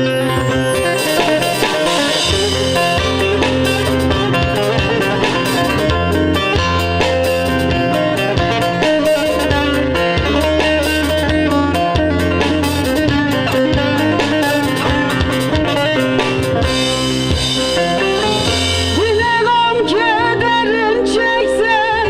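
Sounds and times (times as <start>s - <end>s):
plucked-string melody: 0.0s - 22.0s
steady drum beat: 0.6s - 19.2s.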